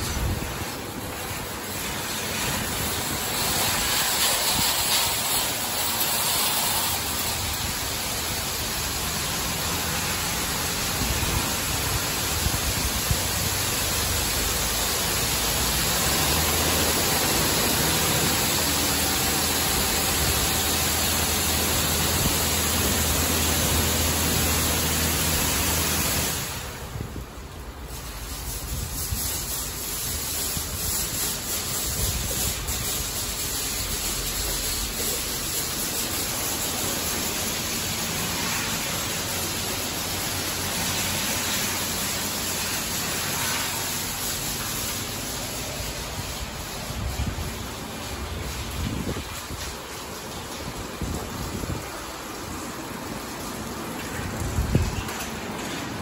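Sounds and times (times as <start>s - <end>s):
high-pressure water spray hissing: 0.0s - 56.0s.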